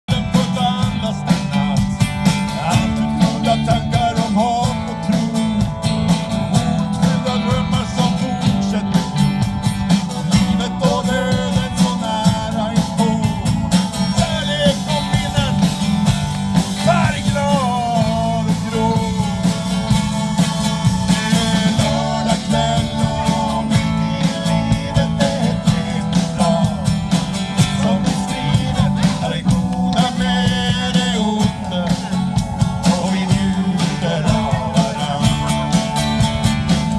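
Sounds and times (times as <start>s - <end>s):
bass guitar: 0.0s - 36.9s
drum beat: 0.0s - 36.9s
electric and acoustic guitars: 0.0s - 36.9s
keyboard: 0.0s - 36.9s.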